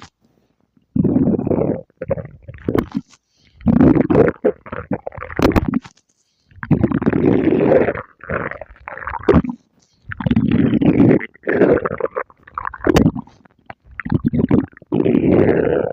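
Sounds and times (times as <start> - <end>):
stomach growling: 0.8 - 15.9.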